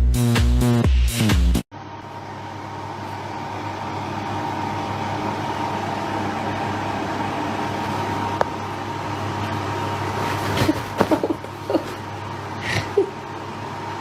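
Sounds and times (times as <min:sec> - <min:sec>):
machine hum: 0:01.7 - 0:14.0.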